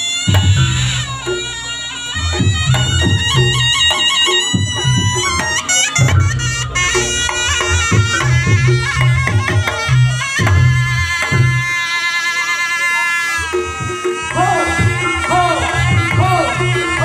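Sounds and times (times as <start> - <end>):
drums: 0.0 - 17.0
shawm playing nasal melody: 0.0 - 17.0.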